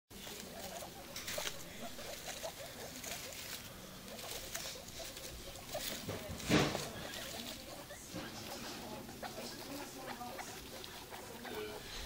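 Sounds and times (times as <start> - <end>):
guinea pigs squeaking: 0.1 - 12.0
rustling of bedding: 0.2 - 12.0.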